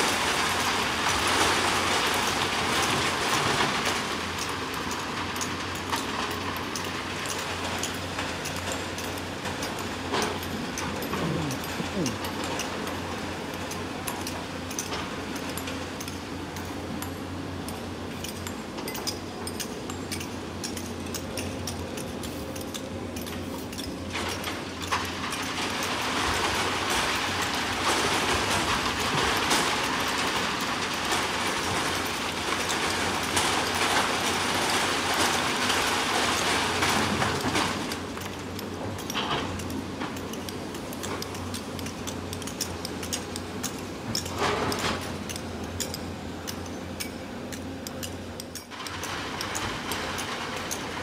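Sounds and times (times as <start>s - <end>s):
excavator diesel engines running: 0.0s - 51.0s.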